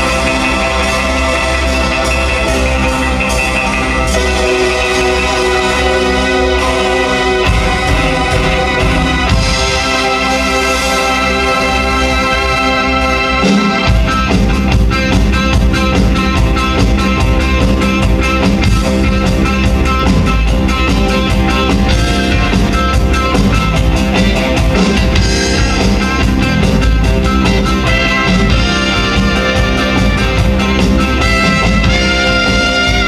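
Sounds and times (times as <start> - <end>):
bass: 0.0 - 33.0
drums: 0.0 - 33.0
electric guitar: 0.0 - 33.0.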